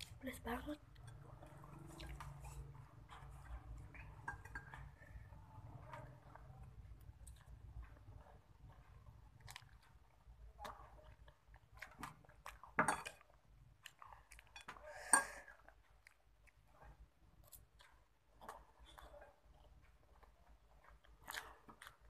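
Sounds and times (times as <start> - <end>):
person chewing: 0.9 - 22.0.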